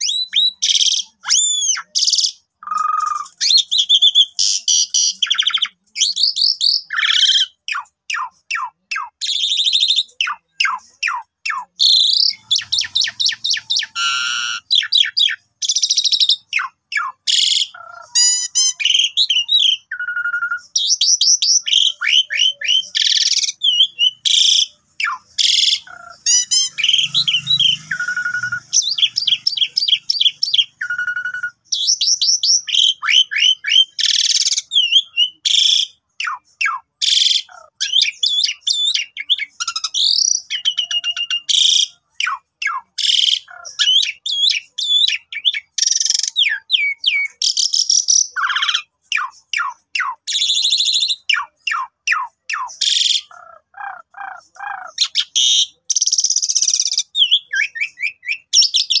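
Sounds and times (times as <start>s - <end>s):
starling singing: 0.0s - 59.0s.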